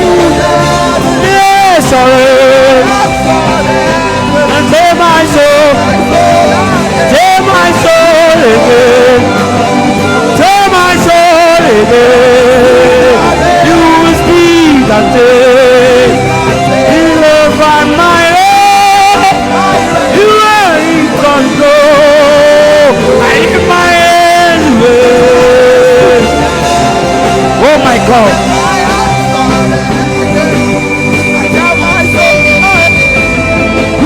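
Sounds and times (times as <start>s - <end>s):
sustained instrumental backing: 0.0s - 34.0s.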